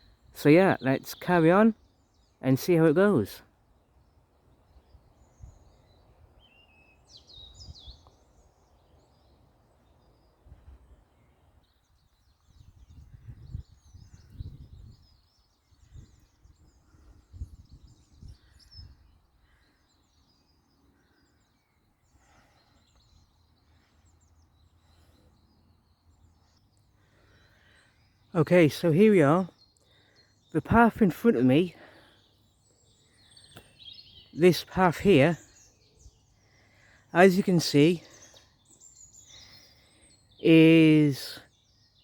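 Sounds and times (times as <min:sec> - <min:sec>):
songbirds chirping and singing: 0:00.0 - 0:42.0.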